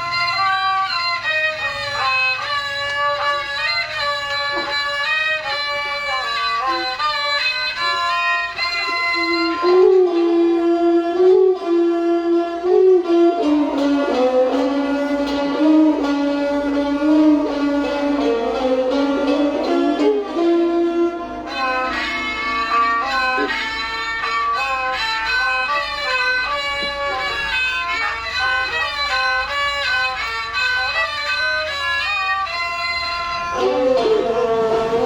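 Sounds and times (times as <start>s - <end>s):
bowed strings gliding melody: 0.0s - 35.0s.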